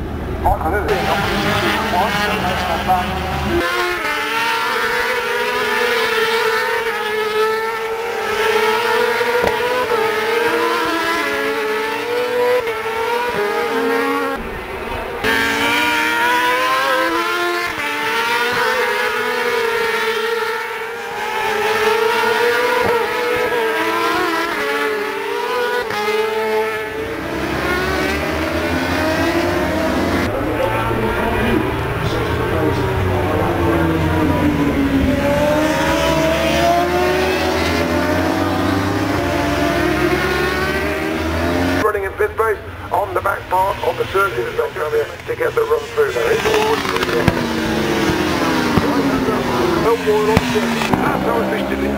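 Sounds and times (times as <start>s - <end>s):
racing motorcycle engines revving: 0.0s - 51.9s.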